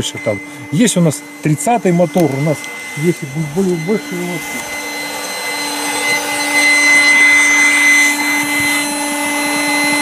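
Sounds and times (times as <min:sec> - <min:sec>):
electric air pump humming: 0:00.0 - 0:10.0.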